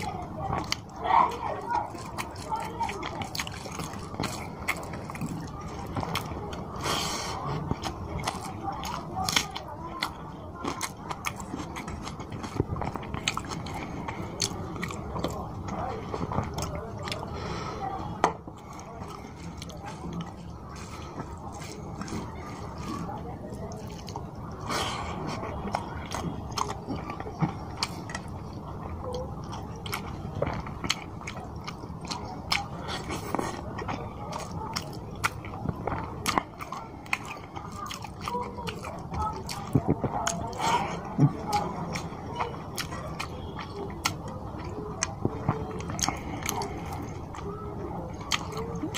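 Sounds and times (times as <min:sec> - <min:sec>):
man chewing food: 0:00.0 - 0:48.9.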